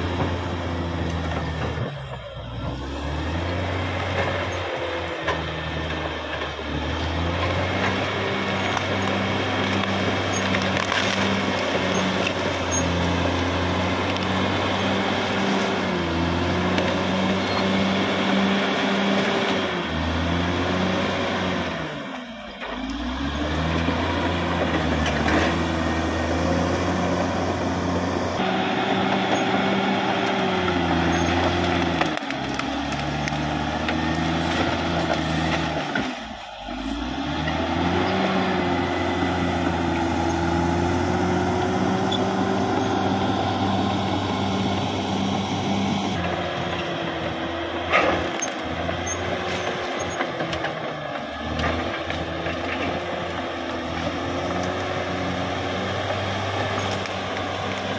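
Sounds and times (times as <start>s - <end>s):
bulldozer diesel engine under load: 0.0s - 57.9s.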